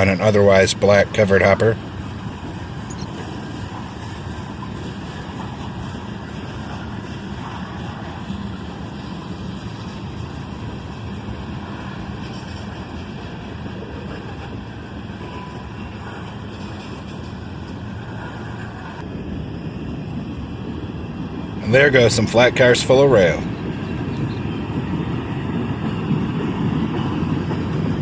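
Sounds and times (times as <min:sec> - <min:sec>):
steel wheels on rails: 0:00.0 - 0:28.0.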